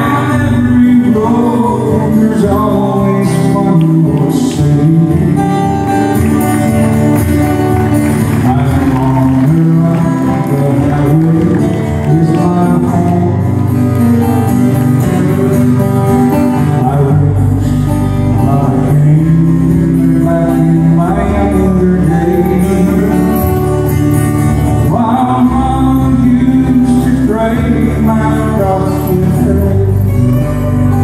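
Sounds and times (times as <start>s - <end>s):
man singing into a microphone: 0.0s - 6.4s, 8.2s - 31.0s
strummed acoustic guitars: 0.0s - 31.0s.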